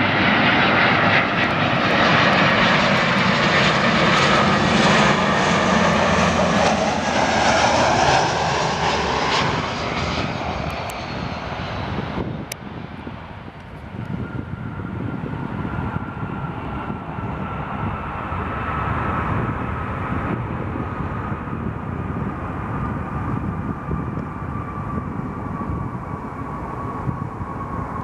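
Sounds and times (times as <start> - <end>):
jet engines running down: 0.0 - 28.0.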